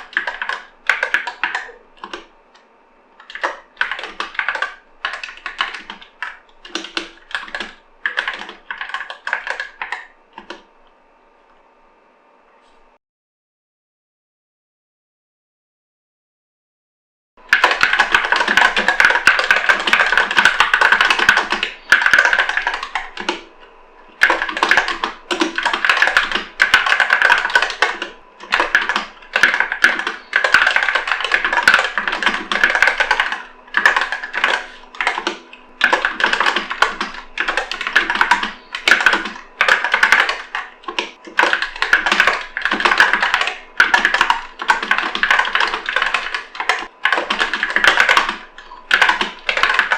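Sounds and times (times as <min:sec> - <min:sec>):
fast typing on mechanical keyboard: 0:00.0 - 0:02.3, 0:03.2 - 0:10.7, 0:17.4 - 0:23.5, 0:24.2 - 0:49.9.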